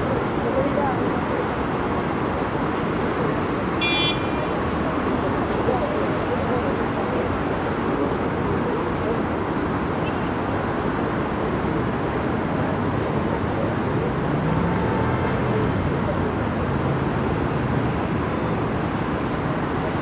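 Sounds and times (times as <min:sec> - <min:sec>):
city traffic noise: 0:00.0 - 0:20.0.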